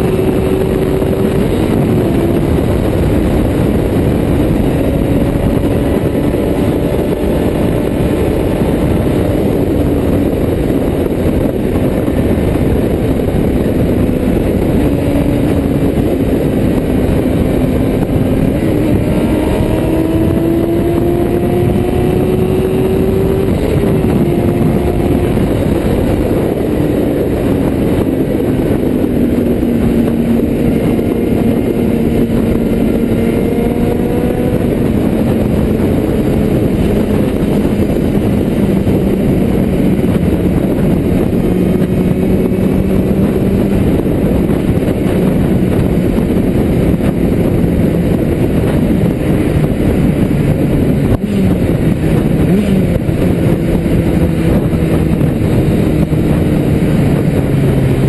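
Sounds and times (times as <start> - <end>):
wind noise rushing: 0.0 - 58.0.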